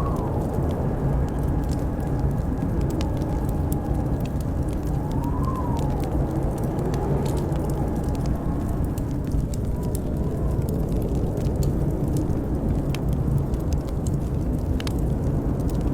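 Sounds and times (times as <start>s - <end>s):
blizzard wind howling: 0.0s - 15.9s
wood fire crackling and popping: 0.0s - 15.9s.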